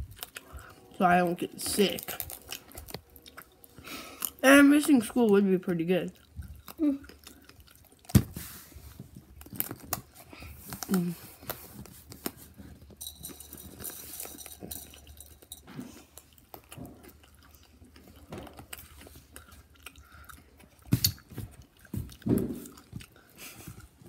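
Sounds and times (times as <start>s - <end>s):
crunching and chewing pretzels: 0.0s - 24.0s.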